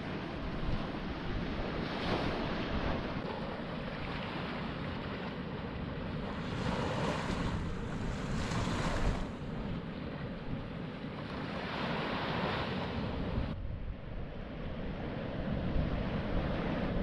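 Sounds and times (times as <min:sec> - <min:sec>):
small waves on sandy beach: 0:00.0 - 0:13.6, 0:14.2 - 0:17.0
wind rumbling on microphone: 0:00.0 - 0:17.0.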